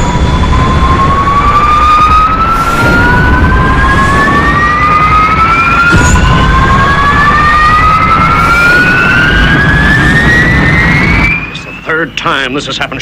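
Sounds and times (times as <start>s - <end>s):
low rumble: 0.0s - 11.9s
jet engines whining: 0.0s - 13.0s.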